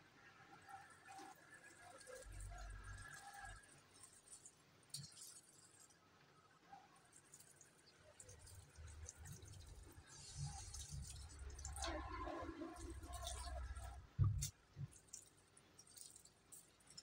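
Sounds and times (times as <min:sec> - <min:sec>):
water pouring into soil: 0:00.5 - 0:06.1, 0:06.9 - 0:17.0.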